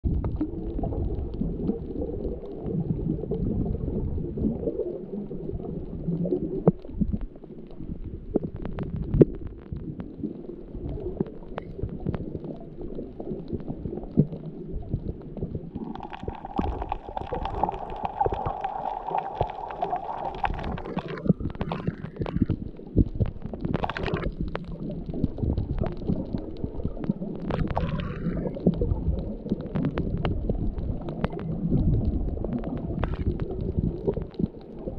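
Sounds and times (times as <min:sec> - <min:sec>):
underwater churning rumble: 0:00.0 - 0:34.9.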